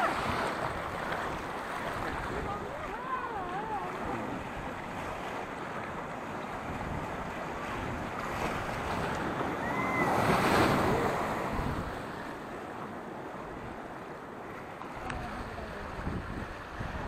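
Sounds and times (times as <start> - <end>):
white water rushing against boat: 0.0 - 17.0.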